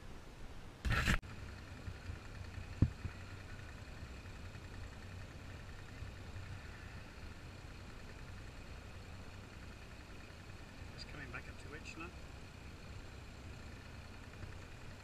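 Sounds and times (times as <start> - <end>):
diesel engine humming: 1.2 - 15.0.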